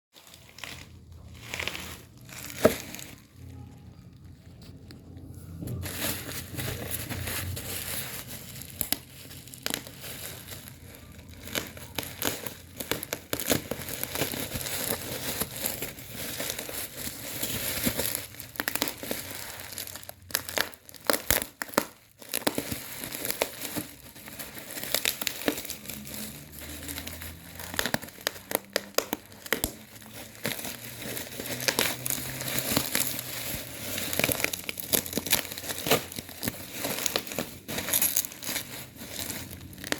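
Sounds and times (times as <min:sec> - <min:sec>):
packaging crinkling: 0:00.2 - 0:39.9.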